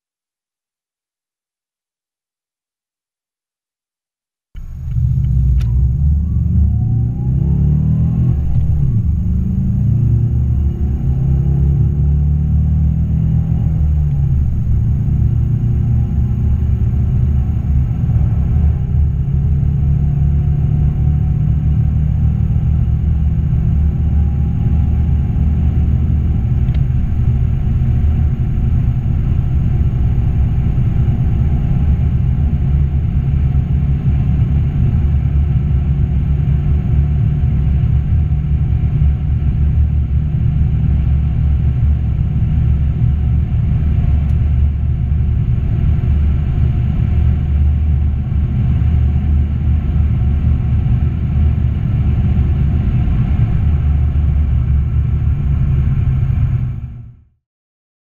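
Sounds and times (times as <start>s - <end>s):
diesel car engine at full throttle: 4.6s - 57.3s.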